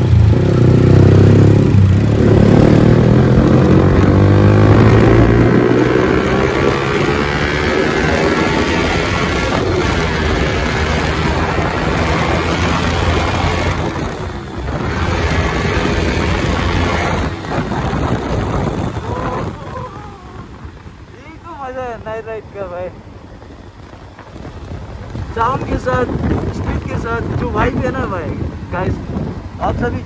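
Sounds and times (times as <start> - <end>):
heavy wind noise: 0.0 - 30.0
motorcycle engine running loud: 0.0 - 30.0.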